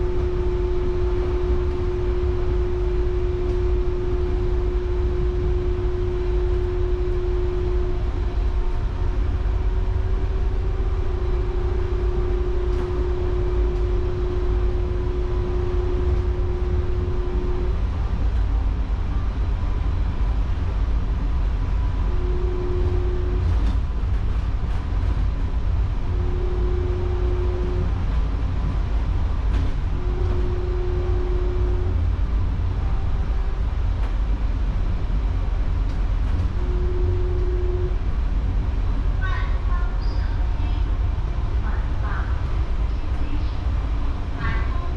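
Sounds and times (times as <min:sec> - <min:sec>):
train running rumble: 0:00.0 - 0:44.9.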